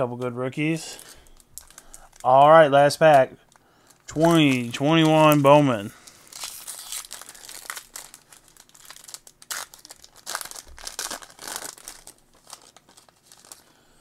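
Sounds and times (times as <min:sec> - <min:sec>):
foil wrapper crinkling and tearing: 0:00.9 - 0:13.8.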